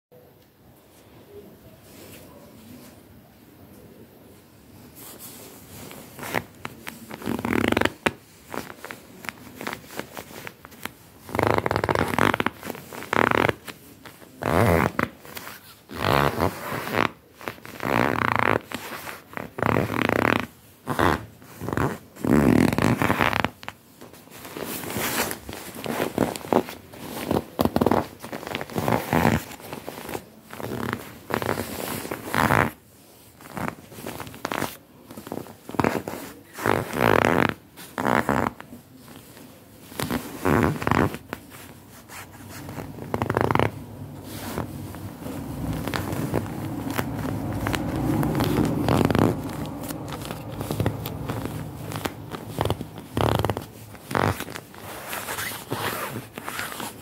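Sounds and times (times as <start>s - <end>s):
puffer jacket rustling: 4.3s - 57.0s.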